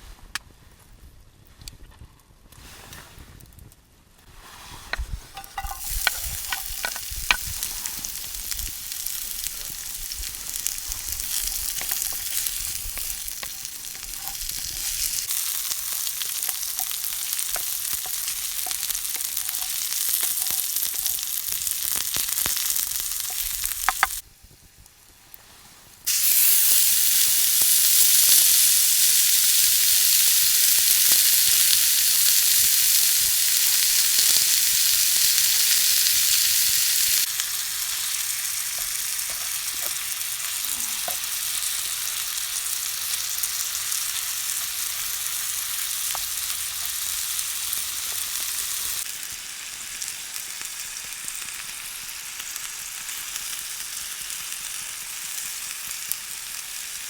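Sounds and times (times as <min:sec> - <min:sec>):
food sizzling in a pan: 0:04.4 - 0:57.0.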